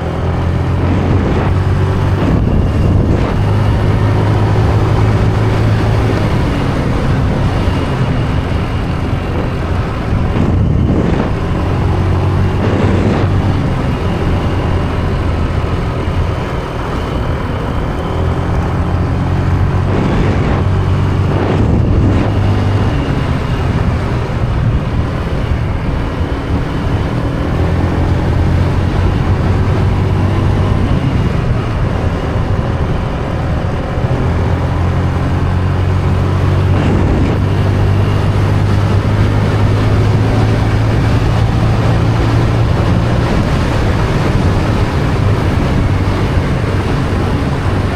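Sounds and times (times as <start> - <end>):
road and wind noise: 0.0 - 47.9
small motorbike engine revving: 0.0 - 47.9.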